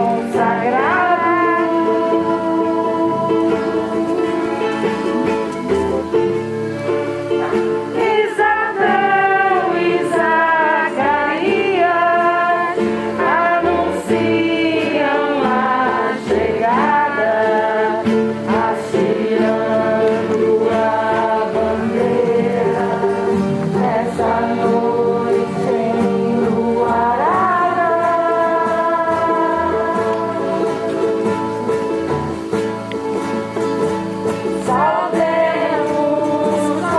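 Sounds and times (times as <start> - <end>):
voices singing a song: 0.0 - 32.1, 34.0 - 36.9.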